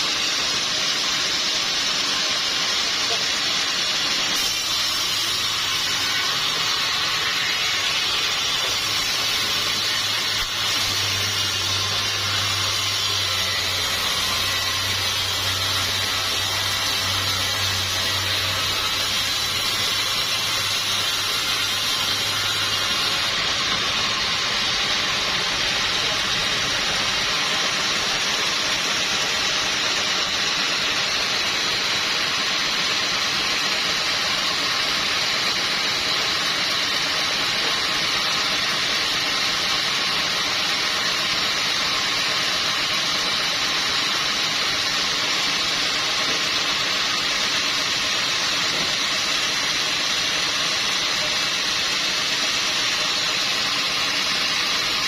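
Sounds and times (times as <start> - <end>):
sawmill hissing rush: 0.0 - 55.0.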